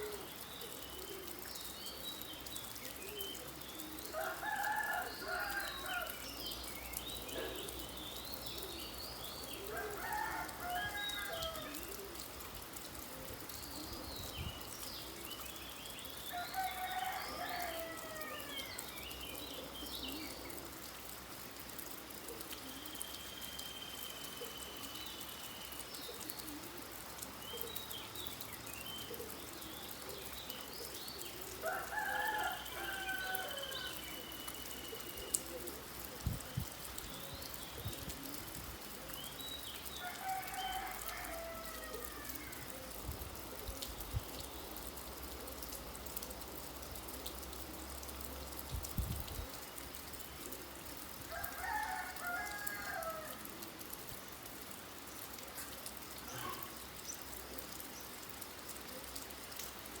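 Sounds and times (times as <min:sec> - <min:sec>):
steady rain: 0:00.0 - 1:00.0.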